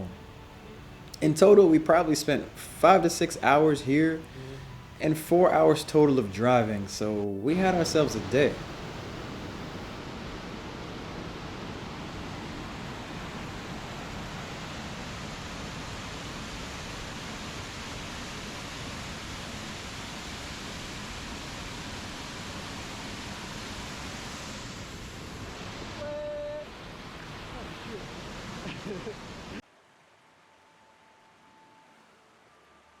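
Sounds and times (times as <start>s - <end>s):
waterfall rushing: 1.5s - 29.6s.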